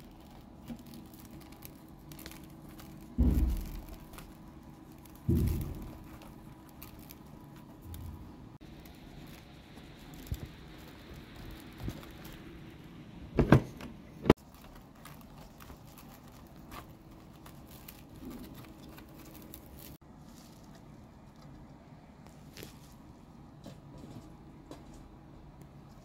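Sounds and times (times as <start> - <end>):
fingers rustling soft eggplants: 0.0 - 13.0, 14.3 - 25.1.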